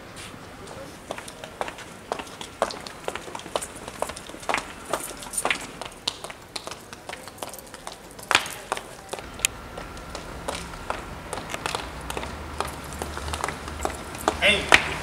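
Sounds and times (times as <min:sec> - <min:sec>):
footsteps on pavement: 0:00.0 - 0:15.0.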